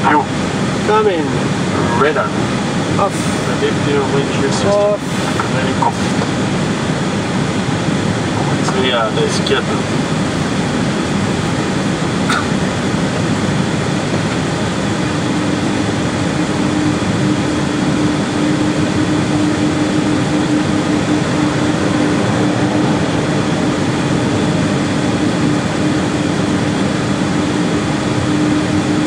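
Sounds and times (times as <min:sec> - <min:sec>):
air-conditioning and engine noise: 0:00.0 - 0:29.0
steady low hum: 0:00.0 - 0:29.0.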